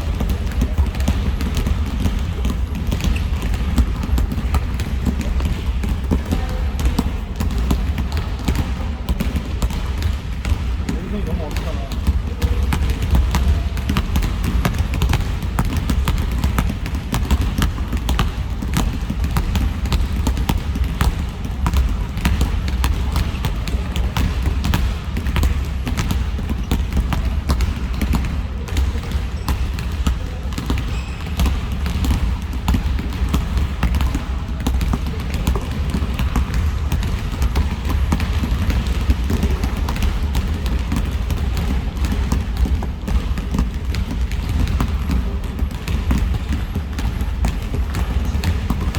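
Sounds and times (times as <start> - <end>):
basketballs bouncing on gym floor: 0.0 - 48.9.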